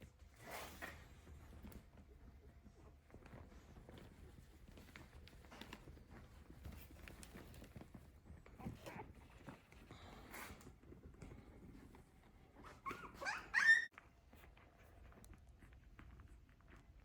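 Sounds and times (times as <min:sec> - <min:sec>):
dog scratching and rustling: 0:00.1 - 0:17.0
dog scuffle: 0:00.2 - 0:17.0.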